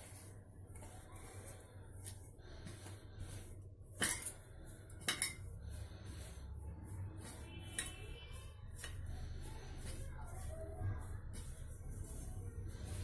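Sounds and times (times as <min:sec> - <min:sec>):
hand rubbing flour: 0:00.0 - 0:13.0.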